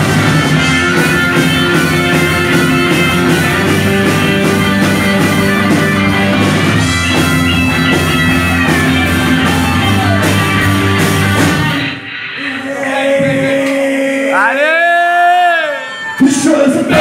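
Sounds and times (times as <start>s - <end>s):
electric guitars: 0.0s - 13.9s
drum kit: 0.0s - 14.0s, 16.7s - 17.0s
bass guitar: 0.0s - 14.4s, 16.7s - 17.0s.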